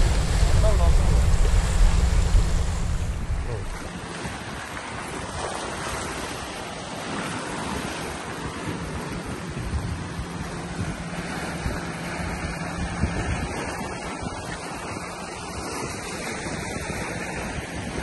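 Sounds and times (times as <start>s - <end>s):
waves breaking over rocks: 0.0s - 18.0s
wind buffeting microphone: 0.0s - 18.0s.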